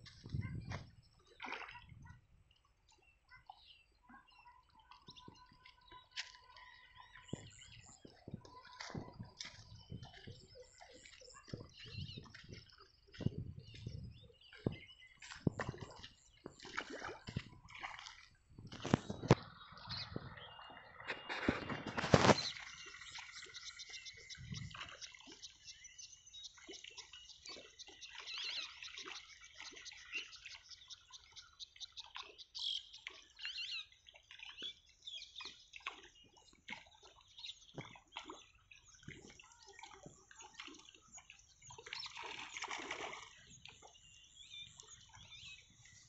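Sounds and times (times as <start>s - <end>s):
small water splashes: 0.0s - 46.0s.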